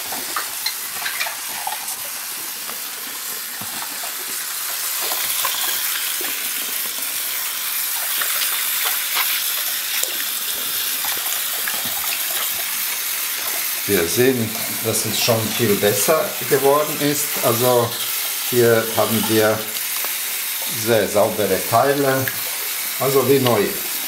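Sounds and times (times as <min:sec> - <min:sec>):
tap water running into sink: 0:00.0 - 0:24.0.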